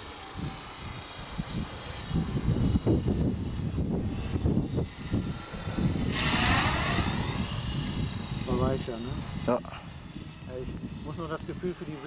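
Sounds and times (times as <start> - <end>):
rc helicopter motor whine: 0.0 - 12.0
wind on microphone: 0.0 - 12.0.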